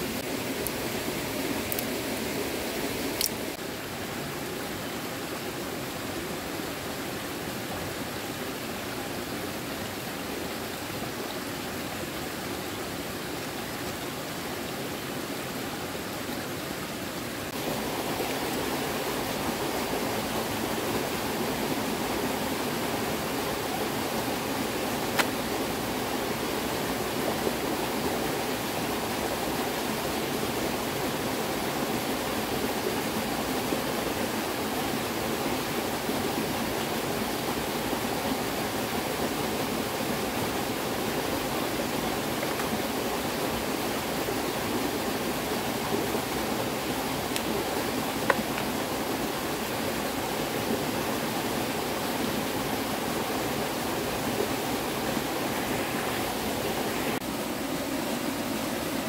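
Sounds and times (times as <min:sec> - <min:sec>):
water rushing: 0:00.0 - 0:59.0.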